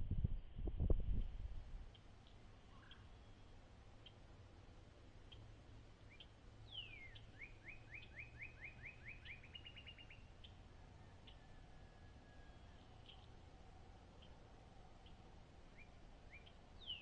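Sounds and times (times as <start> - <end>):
songbird singing: 0.2 - 4.3, 5.2 - 17.0.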